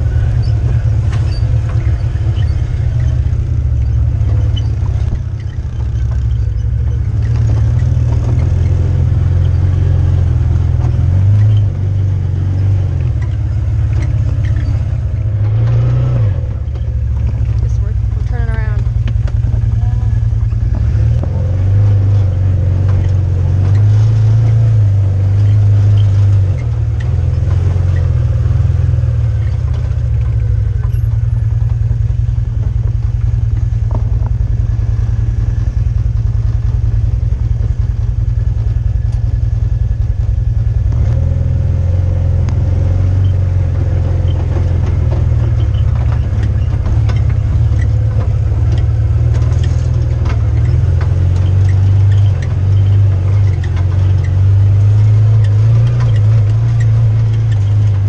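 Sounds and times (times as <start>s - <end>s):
utility vehicle engine droning: 0.0s - 58.0s.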